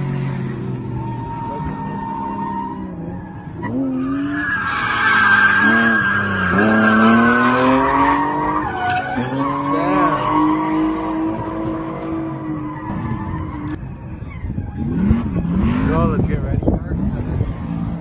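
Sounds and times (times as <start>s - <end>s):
car engine revving: 0.0s - 18.0s
tire squeal: 0.4s - 16.4s.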